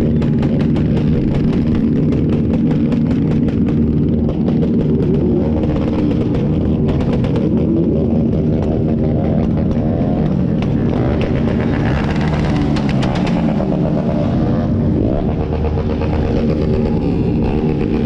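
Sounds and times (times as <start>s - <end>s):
engines bouncing off rev limiter: 0.0s - 18.0s
motorcycle engines revving: 0.0s - 18.0s.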